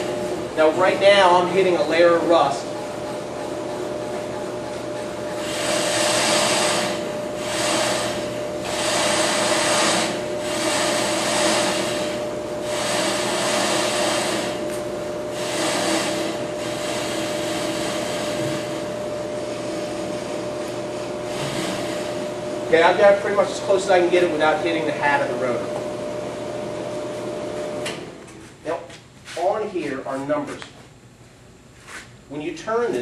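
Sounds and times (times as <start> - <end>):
lathe motor hum: 0.0 - 28.2.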